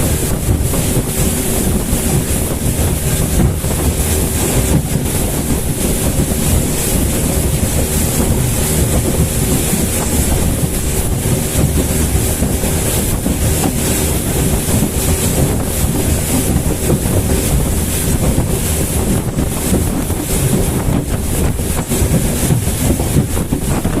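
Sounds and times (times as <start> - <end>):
motorboat engine drone: 0.0 - 24.0
rushing water: 0.0 - 24.0
wind on microphone: 0.0 - 24.0.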